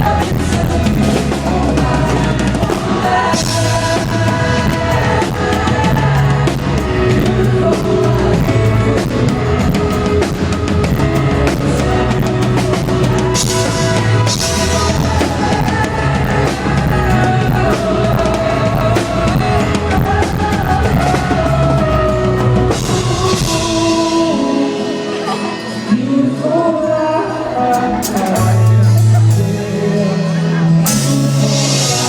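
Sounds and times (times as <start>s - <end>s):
live pop-rock band: 0.0s - 32.0s
voices singing: 0.0s - 32.0s.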